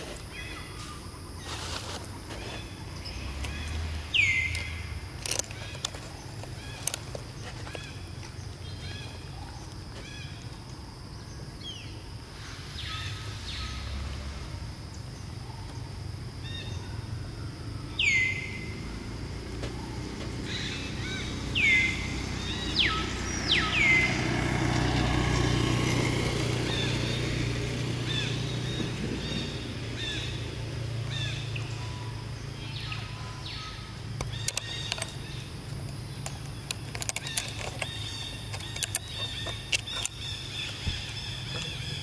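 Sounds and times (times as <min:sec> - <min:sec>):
light bird chirps: 0:00.0 - 0:42.0.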